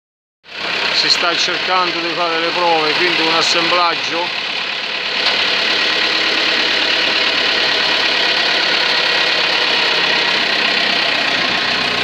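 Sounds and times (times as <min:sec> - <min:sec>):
machine engine running steadily: 0:00.5 - 0:12.0.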